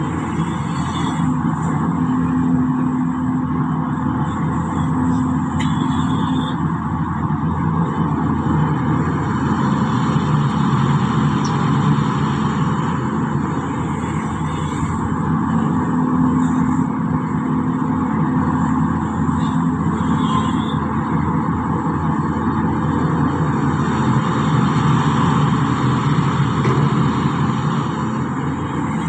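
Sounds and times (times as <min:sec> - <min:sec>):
excavator diesel engine droning: 0:00.0 - 0:29.0.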